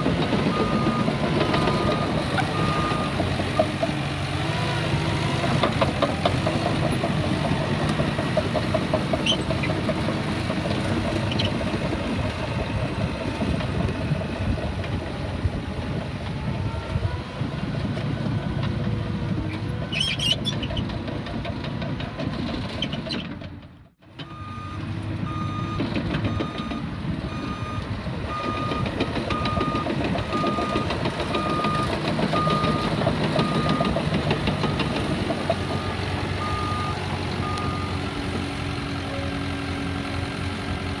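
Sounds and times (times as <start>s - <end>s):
dozer diesel engine running: 0.0s - 41.0s.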